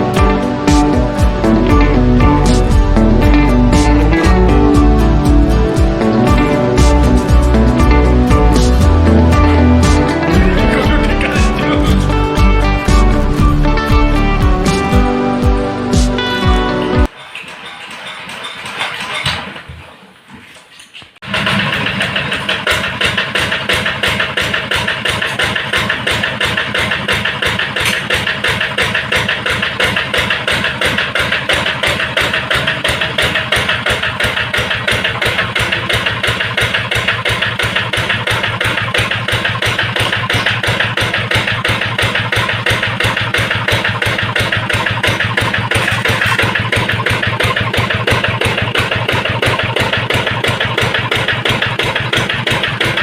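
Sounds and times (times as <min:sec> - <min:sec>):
diesel engine running: 0:00.0 - 0:17.1, 0:21.8 - 0:53.0.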